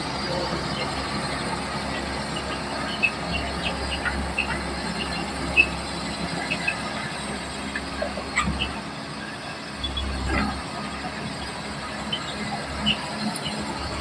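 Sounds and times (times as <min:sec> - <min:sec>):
bulldozer engine drone: 0:00.0 - 0:14.0.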